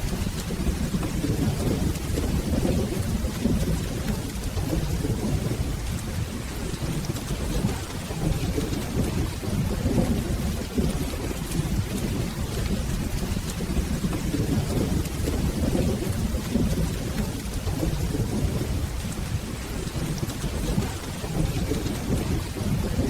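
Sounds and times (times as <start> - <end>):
rolling thunder rumbling: 0.0 - 23.0
steady rain: 0.0 - 23.0.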